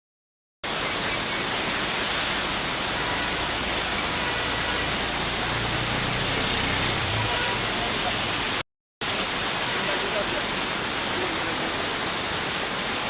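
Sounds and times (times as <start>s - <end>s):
heavy rain pouring: 0.6s - 13.0s.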